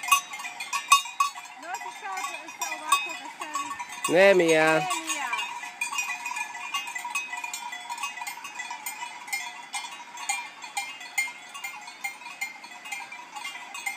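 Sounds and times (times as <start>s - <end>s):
goat bells clinking: 0.0s - 13.9s.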